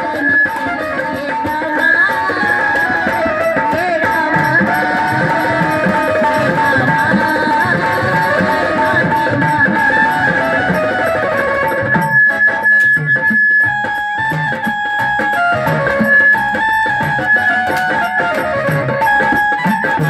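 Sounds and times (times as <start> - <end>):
drums beating quick rhythm: 0.0 - 20.0
held melodic line: 0.0 - 20.0.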